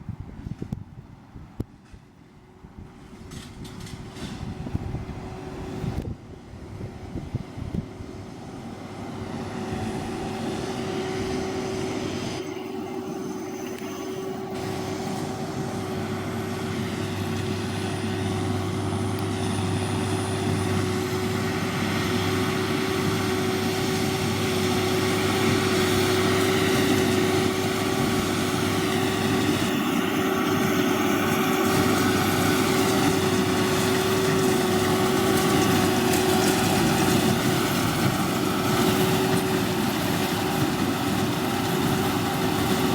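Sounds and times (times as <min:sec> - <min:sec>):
tractor engine drone and whine: 0:00.0 - 0:42.9
square baler running: 0:02.9 - 0:42.9.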